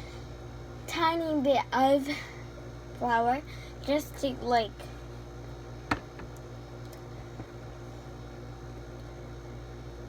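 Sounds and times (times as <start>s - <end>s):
low electrical hum with hiss: 0.0s - 10.0s.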